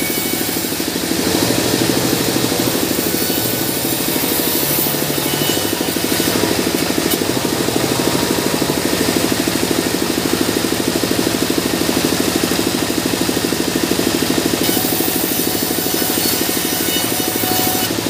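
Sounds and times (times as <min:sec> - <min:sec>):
blade ripping wood with hiss: 0:00.0 - 0:11.4, 0:14.4 - 0:18.0
band saw droning: 0:00.0 - 0:18.0.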